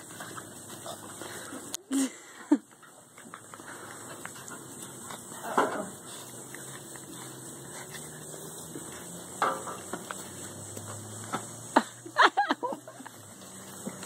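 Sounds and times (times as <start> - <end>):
puppies rustling in grass: 0.0 - 1.7, 2.8 - 11.8, 12.8 - 14.0.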